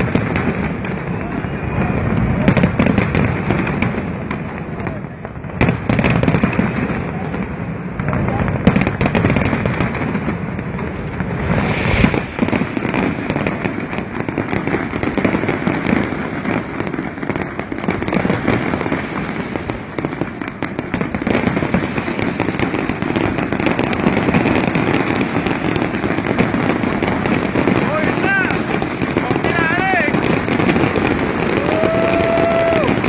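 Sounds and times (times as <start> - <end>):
fireworks booming and crackling: 0.0 - 33.0
loud firework bang: 0.0 - 33.0.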